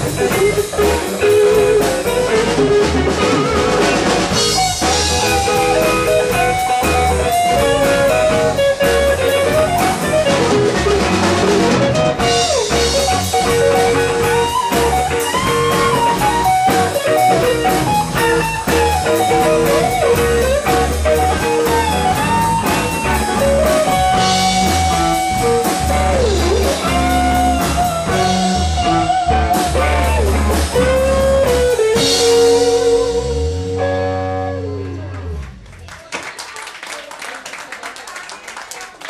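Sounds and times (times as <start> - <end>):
drums and cymbals: 0.0 - 34.4
rock band chord ringing: 0.0 - 35.6
lead electric guitar bent notes: 0.0 - 35.7
bass guitar: 0.0 - 36.0.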